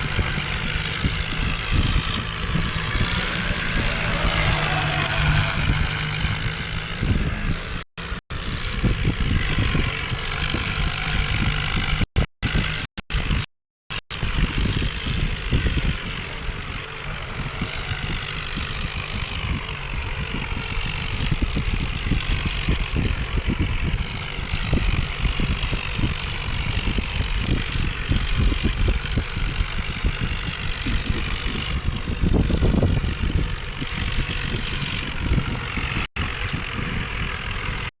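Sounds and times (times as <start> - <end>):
tractor engines rumbling: 0.0 - 37.9.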